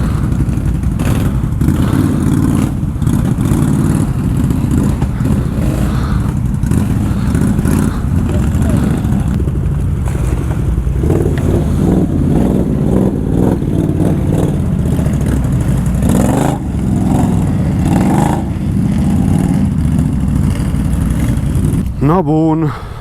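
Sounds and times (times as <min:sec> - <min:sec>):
atv engine running under load: 0:00.0 - 0:22.3.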